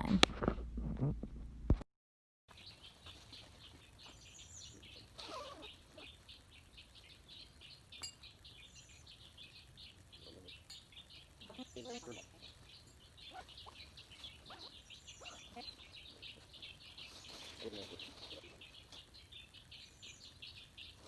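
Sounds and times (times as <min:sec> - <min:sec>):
birds chirping: 0:02.5 - 0:21.0.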